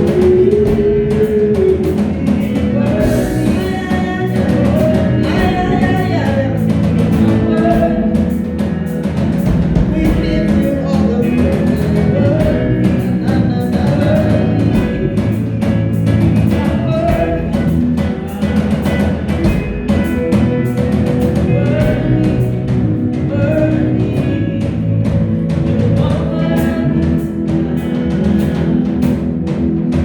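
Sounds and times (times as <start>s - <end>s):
live worship band music: 0.0s - 30.0s
person singing: 0.0s - 30.0s
steady drum beat: 0.0s - 30.0s.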